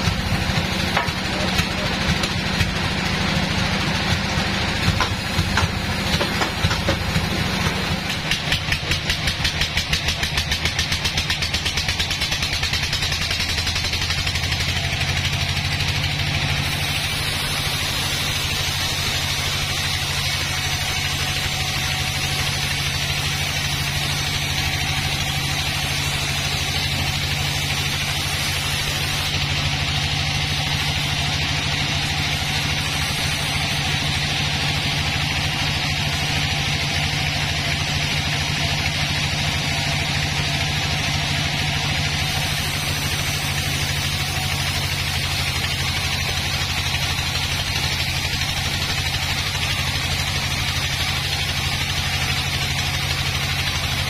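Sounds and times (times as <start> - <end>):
band sawmill sawing a log: 0.0 - 54.0.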